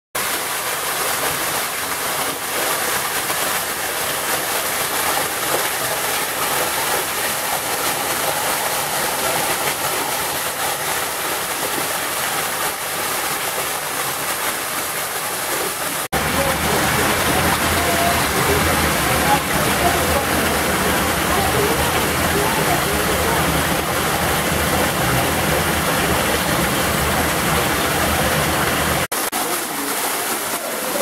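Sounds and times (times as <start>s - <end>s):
stream running over stones: 0.2s - 31.0s
waterfall rushing: 0.2s - 31.0s.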